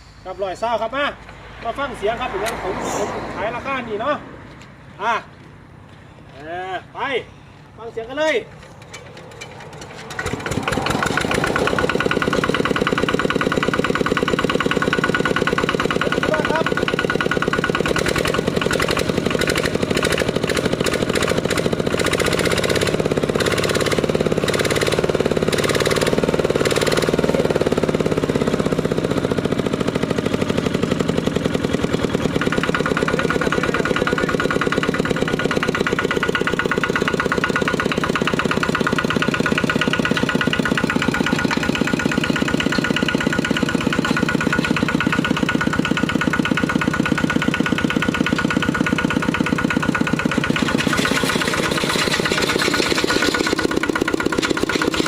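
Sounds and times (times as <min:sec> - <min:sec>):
diesel engine chugging: 0:00.0 - 0:55.0
engine clatter: 0:08.2 - 0:55.0.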